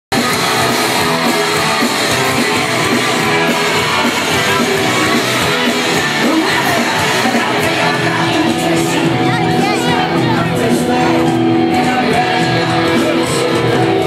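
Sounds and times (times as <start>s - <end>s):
drums: 0.0s - 14.0s
distorted electric guitars: 0.1s - 14.0s.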